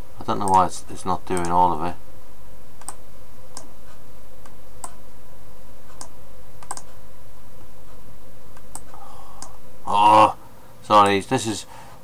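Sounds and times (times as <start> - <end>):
background hiss: 0.0 - 12.0
faint hum: 0.0 - 12.0.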